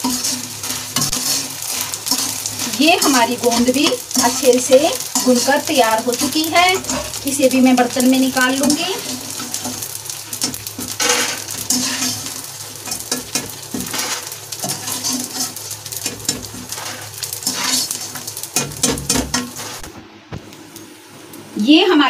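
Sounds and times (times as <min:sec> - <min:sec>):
metal skimmer scraping pan: 0:00.0 - 0:07.4, 0:08.5 - 0:19.8
frying sizzling in oil: 0:00.0 - 0:22.0.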